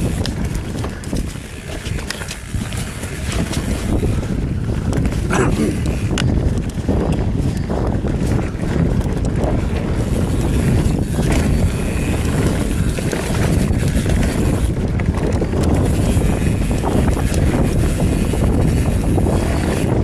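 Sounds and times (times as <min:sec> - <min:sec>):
mountain bike rattling on dirt trail: 0:00.0 - 0:20.0
wind noise on microphone: 0:00.0 - 0:20.0.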